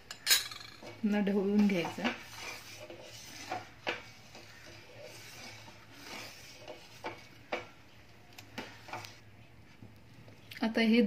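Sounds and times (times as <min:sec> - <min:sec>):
spoon stirring in a steel pot: 0:00.0 - 0:09.3.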